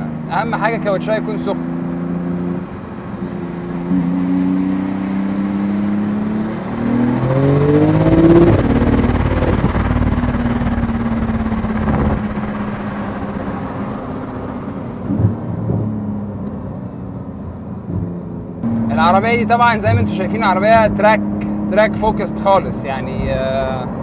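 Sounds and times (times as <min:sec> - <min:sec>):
car engine heard from inside cabin: 0:00.0 - 0:24.0.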